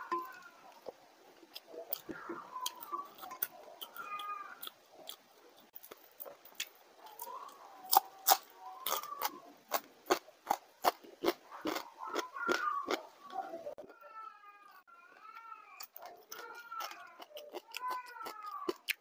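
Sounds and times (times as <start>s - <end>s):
crunching and chewing: 0.0s - 13.9s, 15.8s - 19.0s.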